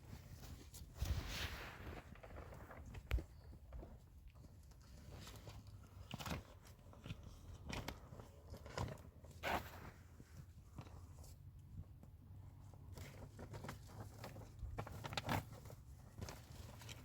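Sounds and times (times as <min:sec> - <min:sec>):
light crunches and scrapes: 0:00.0 - 0:17.0.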